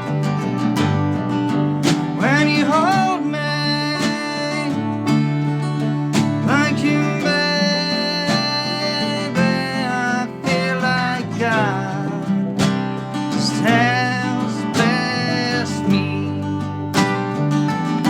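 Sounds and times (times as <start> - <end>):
acoustic guitar strumming: 0.0 - 18.0
person singing: 2.1 - 17.3.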